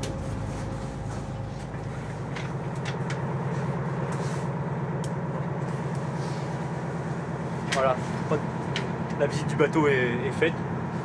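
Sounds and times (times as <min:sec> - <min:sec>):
boat machinery humming: 0:00.0 - 0:11.0.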